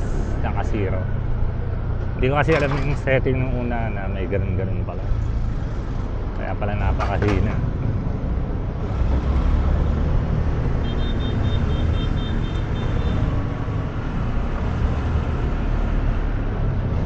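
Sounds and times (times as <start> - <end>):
wind buffeting and road noise: 0.0 - 17.0.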